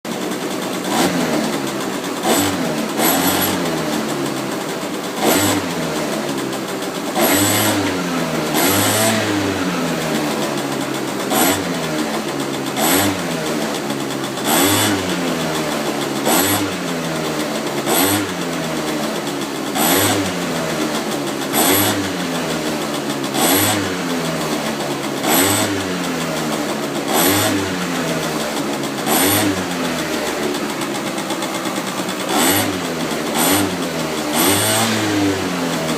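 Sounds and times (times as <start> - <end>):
moped engine revving and idling: 0.0 - 35.9.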